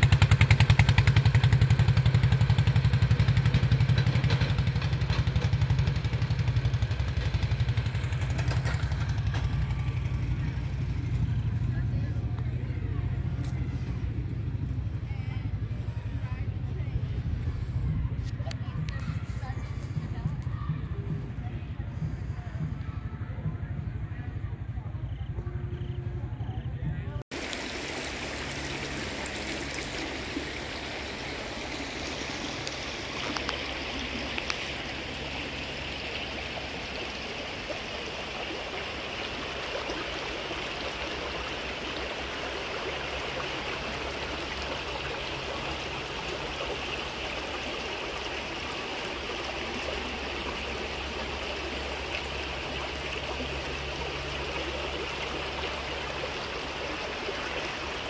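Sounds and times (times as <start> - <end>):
river water running over rocks: 0.0 - 17.9, 27.3 - 58.0.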